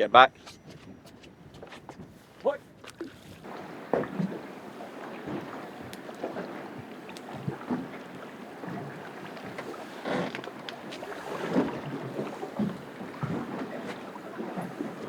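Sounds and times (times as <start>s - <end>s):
wind on microphone: 0.3s - 15.0s
water slapping against boat hull: 0.8s - 15.0s.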